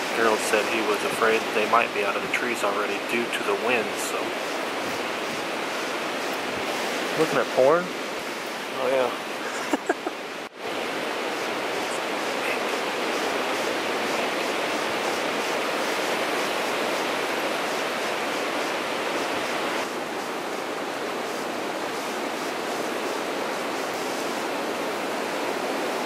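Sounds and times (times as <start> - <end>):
strong wind through trees: 0.0 - 26.0.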